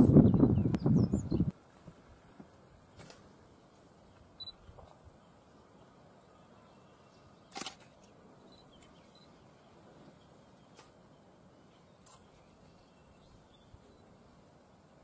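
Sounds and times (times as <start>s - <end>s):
faint steady hiss: 1.5s - 15.0s.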